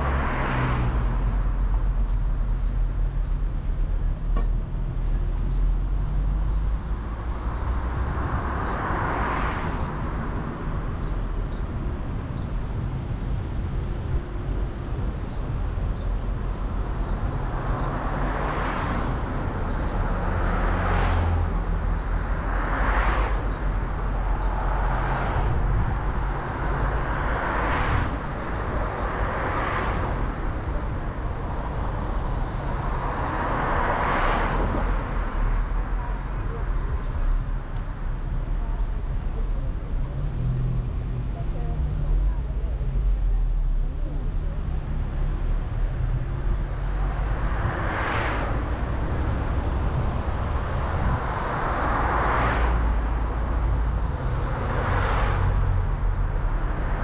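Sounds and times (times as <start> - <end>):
car engine and tyre rumble: 0.0 - 57.0
vehicles swishing past: 4.9 - 57.0.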